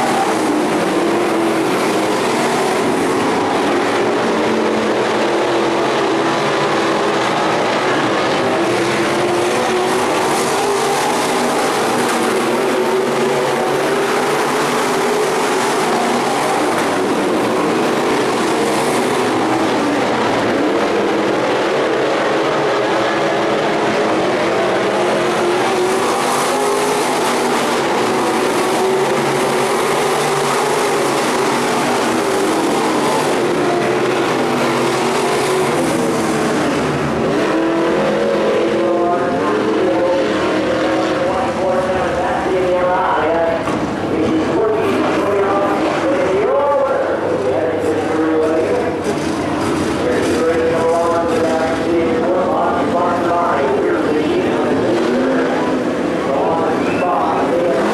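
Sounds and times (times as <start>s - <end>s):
race car engines droning: 0.0s - 57.9s.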